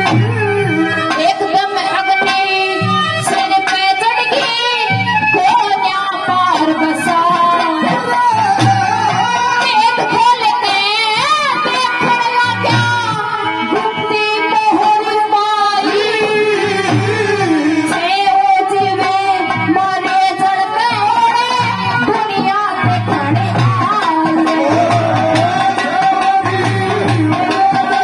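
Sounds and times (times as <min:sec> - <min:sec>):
dholak drum beating: 0:00.0 - 0:28.0
other instruments: 0:00.0 - 0:28.0
woman singing through microphone: 0:00.0 - 0:28.0.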